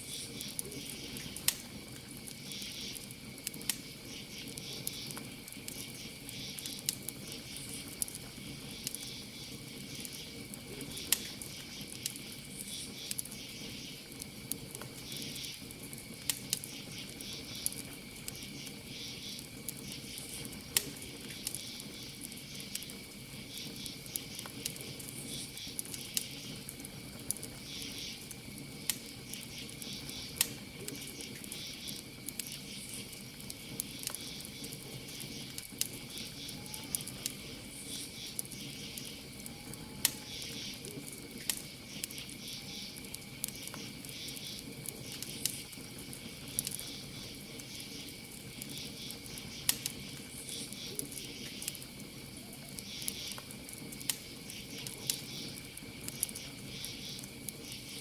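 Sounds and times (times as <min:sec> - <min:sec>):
campfire crackling and popping: 0:00.0 - 0:58.0
crickets trilling: 0:00.0 - 0:58.0
insects chirping: 0:00.0 - 0:58.0.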